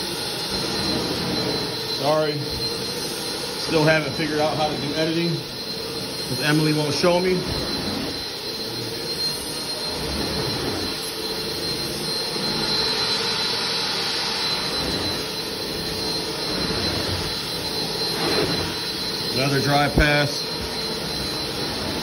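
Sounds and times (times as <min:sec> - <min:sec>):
carpet extractor vacuum whine: 0:00.0 - 0:22.0.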